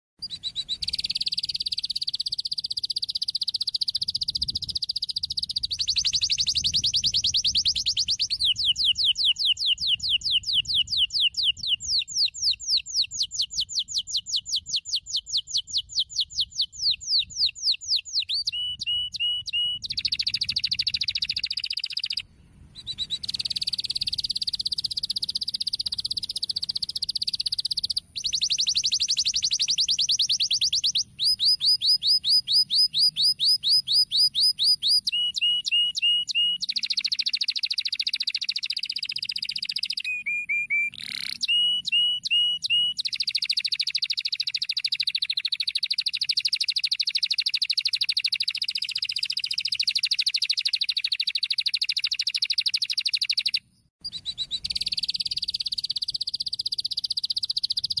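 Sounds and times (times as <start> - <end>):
canary singing trills: 0.2 - 58.0.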